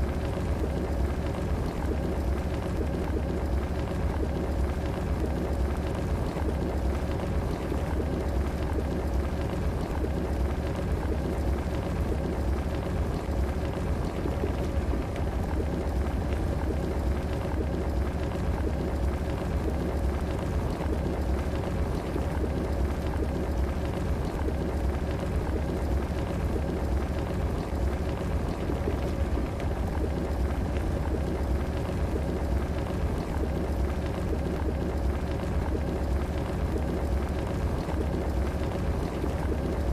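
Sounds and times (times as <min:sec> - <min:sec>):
kettle water bubbling and crackling: 0:00.0 - 0:39.9.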